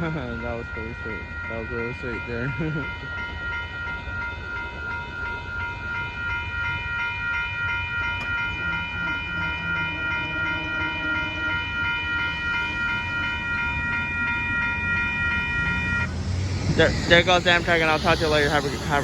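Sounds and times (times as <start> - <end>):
crossing warning bell ringing: 0.0 - 19.0
train rumbling: 0.0 - 19.0.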